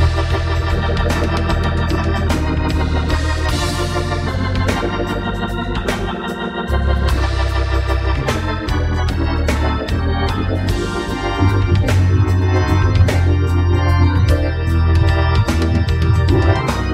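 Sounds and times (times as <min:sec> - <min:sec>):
organ playing gospel chords: 0:00.0 - 0:16.9.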